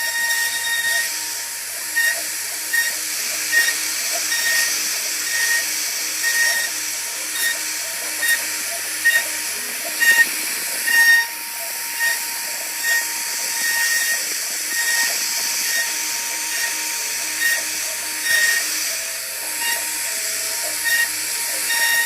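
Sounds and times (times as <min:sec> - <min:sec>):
constant machine tone: 0:00.0 - 0:22.0
router spindle hissing: 0:00.0 - 0:22.0
short higher machine tones: 0:00.0 - 0:22.0.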